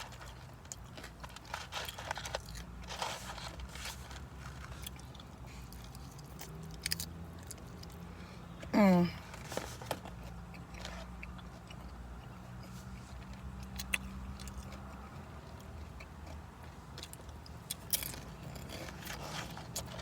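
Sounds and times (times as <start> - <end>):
person chewing crunchy chips: 0.0 - 8.2, 9.2 - 20.0.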